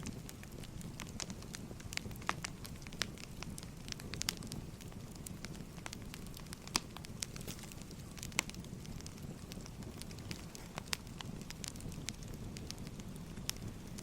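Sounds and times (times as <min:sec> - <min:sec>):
firewood popping and snapping: 0:00.0 - 0:14.0
low rumble of flames: 0:00.0 - 0:14.0.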